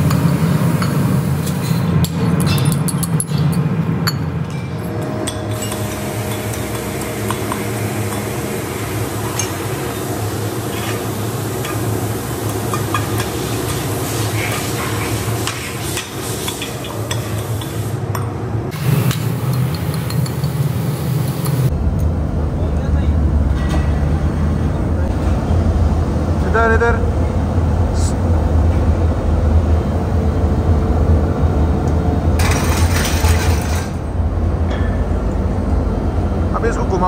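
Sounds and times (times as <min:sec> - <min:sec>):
workshop machinery hum: 0:00.0 - 0:37.0.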